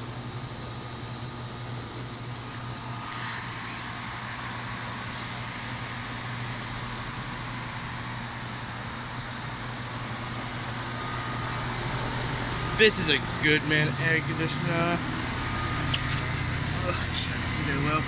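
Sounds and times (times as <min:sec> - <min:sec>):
air conditioner units humming: 0:00.0 - 0:18.0
rush of fan air: 0:00.0 - 0:18.0.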